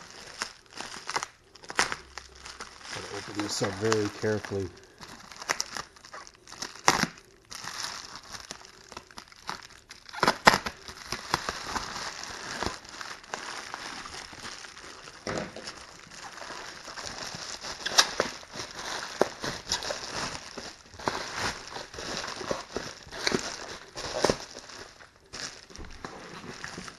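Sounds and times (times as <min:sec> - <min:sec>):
bubble wrap crackles: 0:00.0 - 0:26.9
plastic crinkling and rustling: 0:00.0 - 0:26.9.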